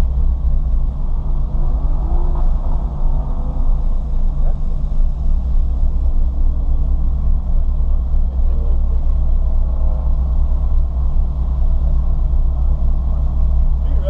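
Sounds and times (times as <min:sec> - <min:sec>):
car engine and road noise rumble: 0:00.0 - 0:14.0.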